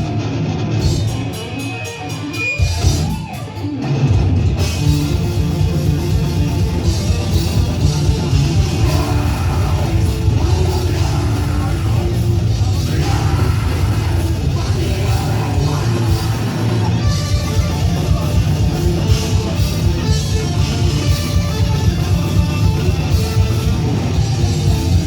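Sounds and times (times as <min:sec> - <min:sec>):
distorted electric guitars: 0:00.0 - 0:25.0
drum kit: 0:00.0 - 0:25.0
heavy metal band playing: 0:00.0 - 0:25.0.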